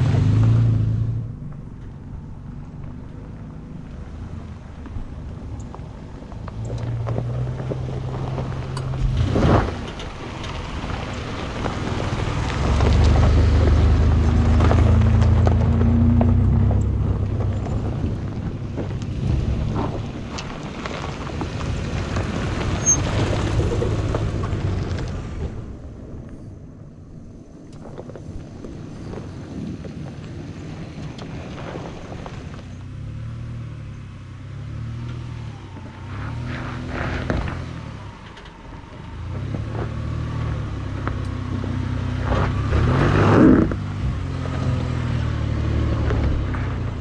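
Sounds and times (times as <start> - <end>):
vehicle engines passing by: 0.0 - 47.0
tyres crunching on gravel: 1.3 - 26.1, 27.6 - 47.0.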